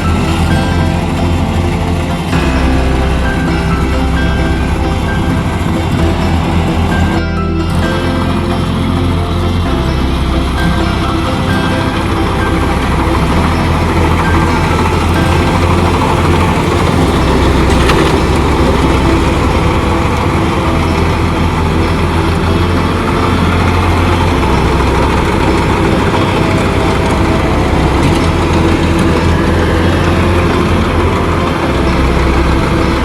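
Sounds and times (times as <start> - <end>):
harvester engine humming: 0.0 - 33.0.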